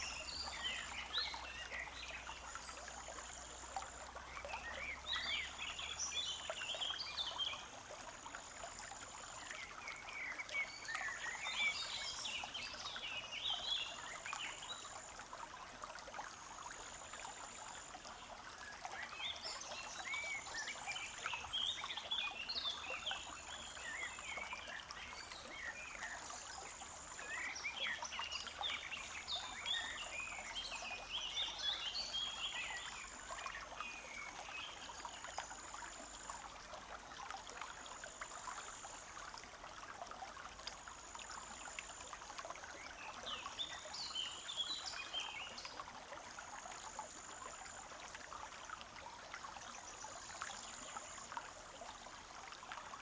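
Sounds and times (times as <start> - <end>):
brook trickling over stones: 0.0 - 53.0.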